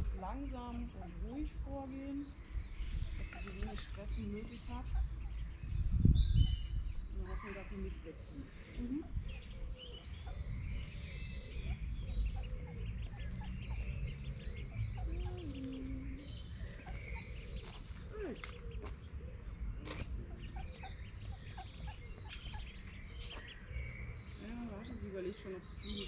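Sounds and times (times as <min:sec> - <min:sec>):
low rumble: 0:00.0 - 0:25.2
high bird chirps: 0:02.0 - 0:24.7.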